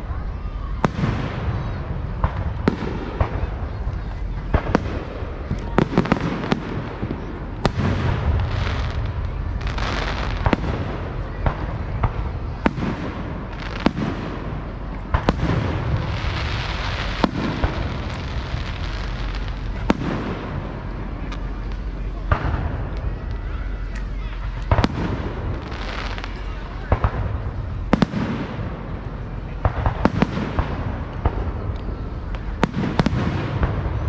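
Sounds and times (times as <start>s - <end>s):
fireworks bangs: 0.0s - 34.0s
fireworks crackling and rumbling: 0.0s - 34.0s.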